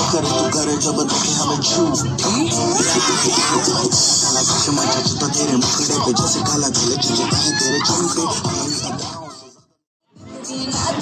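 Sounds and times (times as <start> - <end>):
music with vocals: 0.0 - 11.0.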